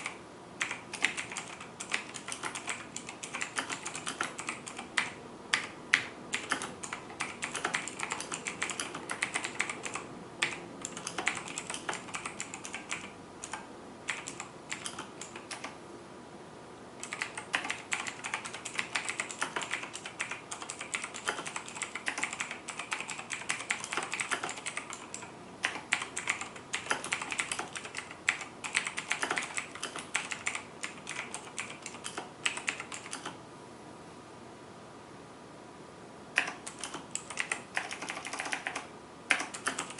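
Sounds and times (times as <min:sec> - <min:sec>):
fast typing on mechanical keyboard: 0:00.0 - 0:15.7, 0:17.0 - 0:33.4, 0:36.4 - 0:39.9.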